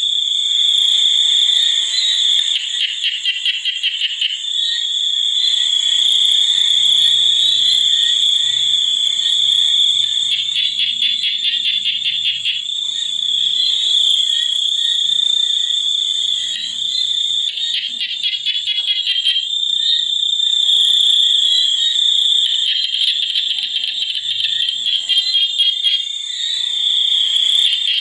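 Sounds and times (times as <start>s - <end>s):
high-pitched insect drone: 0.0s - 28.0s
faint frog croaks: 0.8s - 28.0s.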